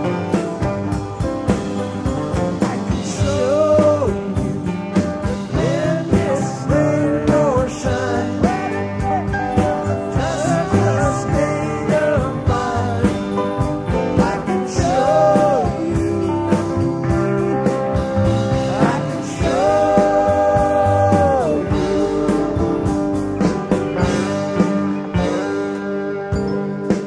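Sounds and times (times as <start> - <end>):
rock music with singing: 0.0 - 27.0.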